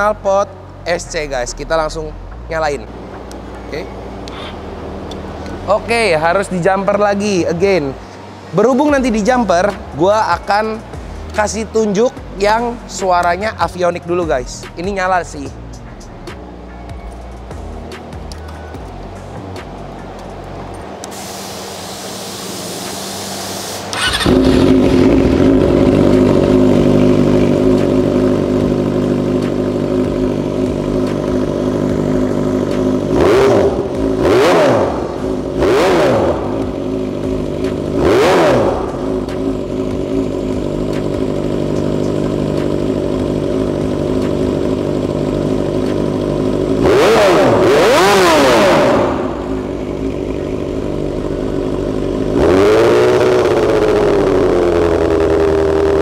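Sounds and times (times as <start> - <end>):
motorcycle engine idling and revving: 0.0 - 21.1, 21.7 - 56.0.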